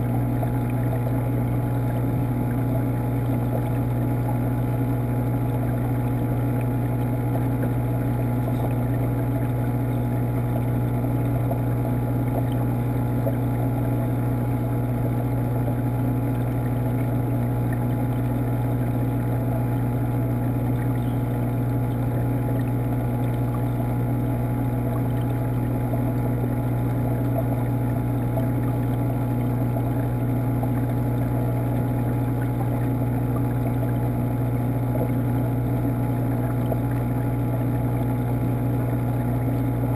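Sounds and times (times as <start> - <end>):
water pump humming underwater: 0.0 - 39.9.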